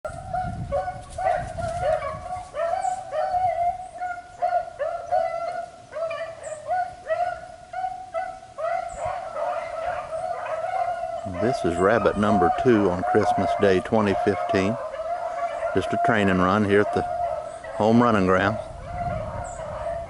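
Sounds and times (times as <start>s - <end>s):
hounds baying: 0.1s - 20.0s.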